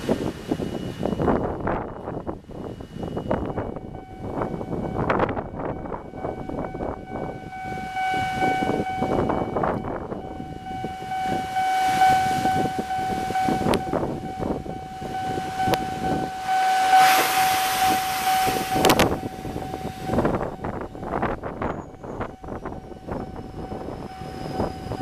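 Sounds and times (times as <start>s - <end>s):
crossing alarm electronic bell: 0.0s - 25.0s
train running over crossing: 0.0s - 25.0s.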